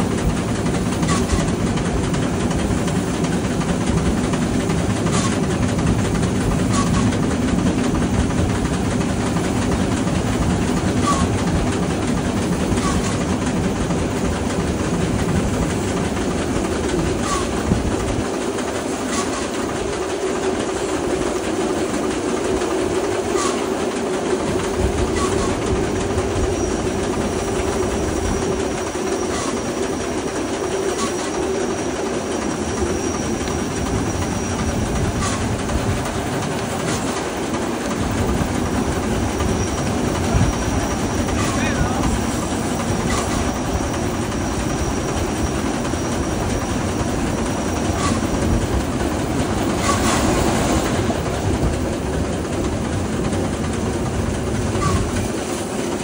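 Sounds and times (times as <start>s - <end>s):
steam train rumble: 0.0s - 56.0s
wheels clicking over rail joints: 0.0s - 56.0s.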